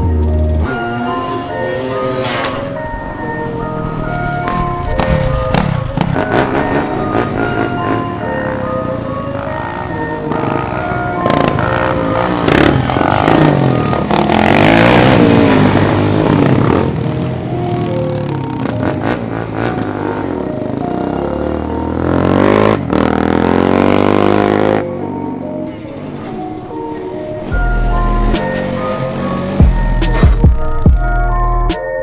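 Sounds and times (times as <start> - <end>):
off-road vehicle engines revving: 0.0 - 31.8
music playing: 0.0 - 32.0.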